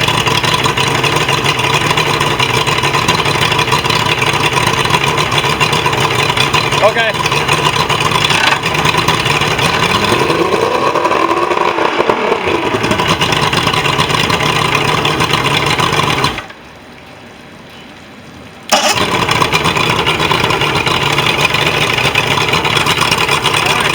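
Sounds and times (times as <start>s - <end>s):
outboard engine running: 0.0s - 16.6s, 18.7s - 23.9s.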